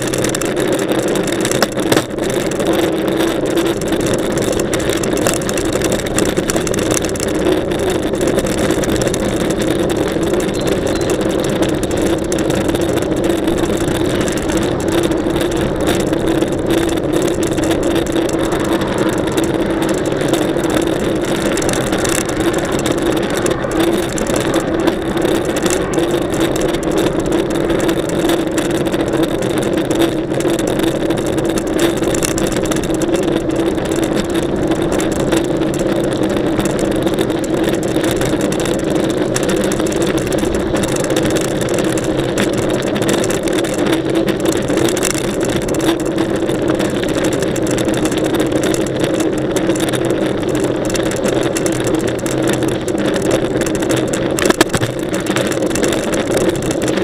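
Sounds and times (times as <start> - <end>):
bike tyre noise: 0.0 - 57.0
hum: 0.0 - 57.0
wind noise: 0.0 - 57.0.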